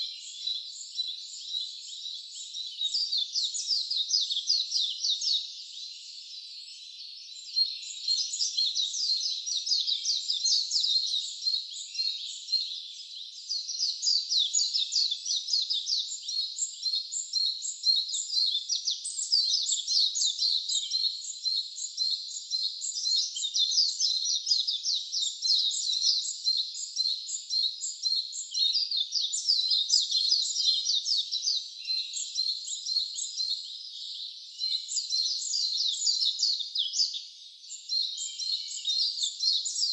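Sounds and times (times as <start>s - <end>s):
birds chirping in chorus: 0.0s - 39.9s.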